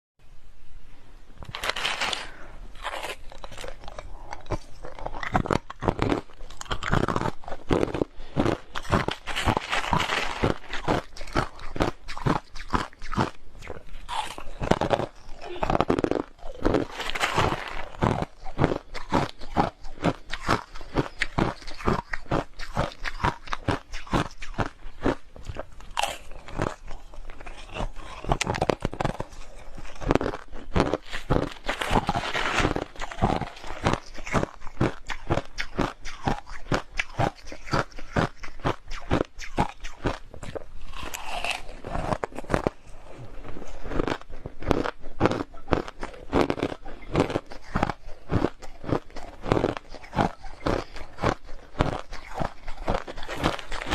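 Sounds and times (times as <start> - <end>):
chewing crushed ice: 1.4 - 53.9.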